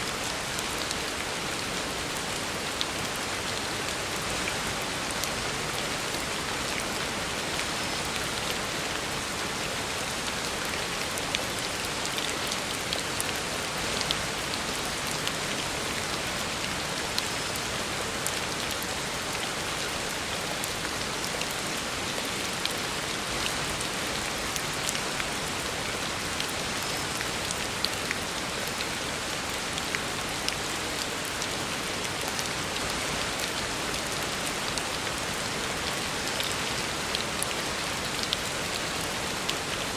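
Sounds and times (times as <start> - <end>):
heavy rain on road: 0.1 - 39.9.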